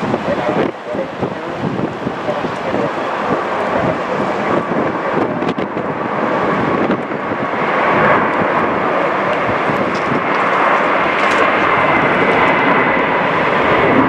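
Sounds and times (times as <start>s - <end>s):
jet engines overhead: 0.0s - 14.0s
wind buffeting microphone: 0.0s - 14.0s.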